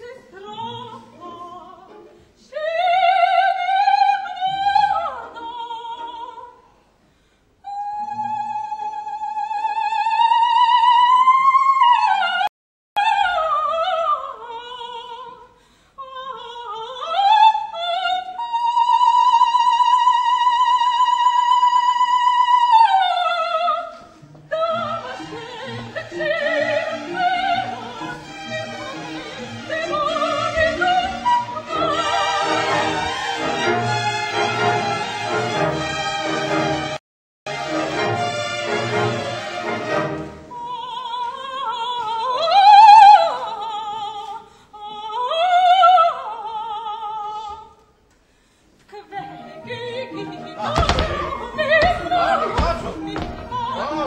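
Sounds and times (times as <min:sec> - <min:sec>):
soprano singing opera: 0:00.0 - 0:06.6, 0:07.6 - 0:33.7, 0:40.5 - 0:47.9, 0:48.9 - 0:54.0.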